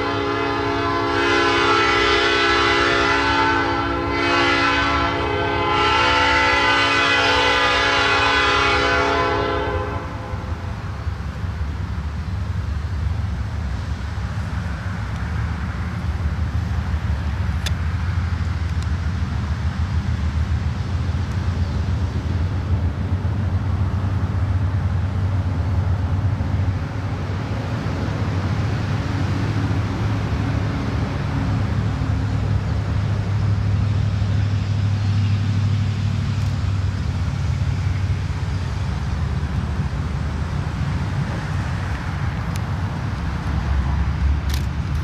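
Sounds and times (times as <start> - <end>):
diesel locomotive engine drone: 0.0 - 45.0.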